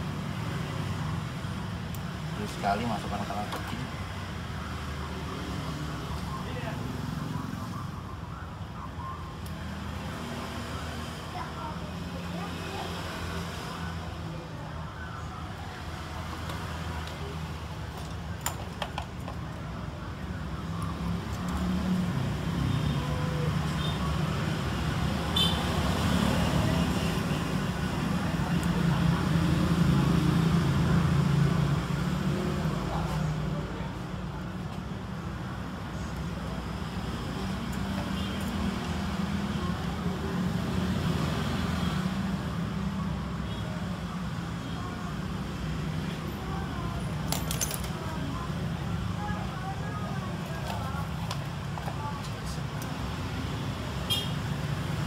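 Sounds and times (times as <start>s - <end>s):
low rumble of road traffic: 0.0s - 55.0s.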